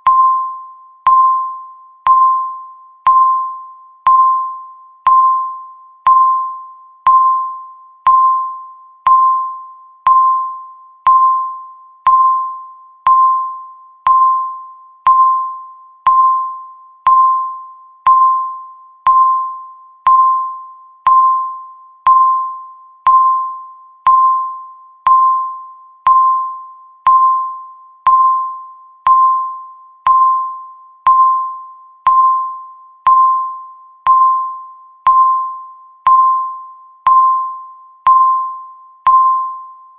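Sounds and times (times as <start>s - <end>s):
bell-like timer ticks: 0.0s - 39.9s.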